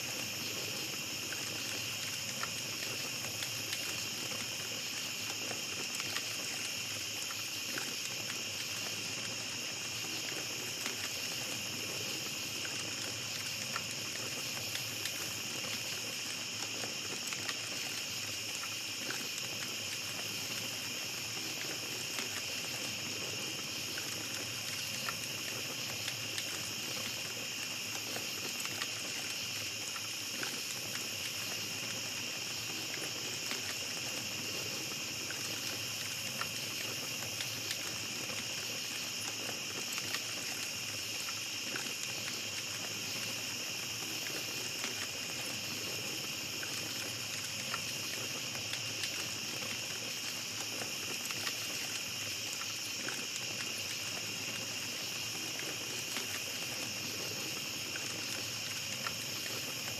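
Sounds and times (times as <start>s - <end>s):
campfire crackling and popping: 0.0s - 59.9s
crickets trilling: 0.0s - 59.9s.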